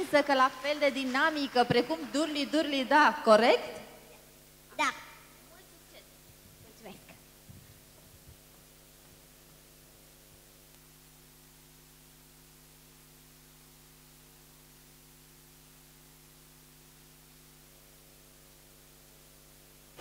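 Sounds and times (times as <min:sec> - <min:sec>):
electrical hum and hiss: 0:00.0 - 0:20.0.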